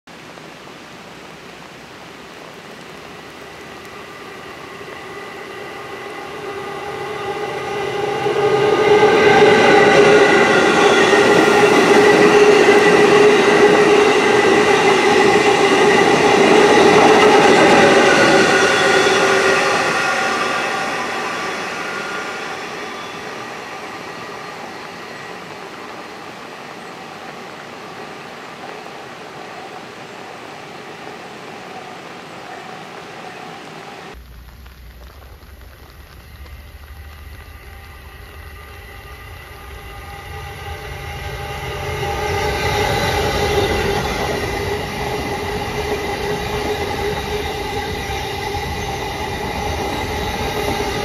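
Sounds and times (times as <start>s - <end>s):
rail and wheel noise: 0.4s - 51.0s
electric train whine: 2.2s - 51.0s.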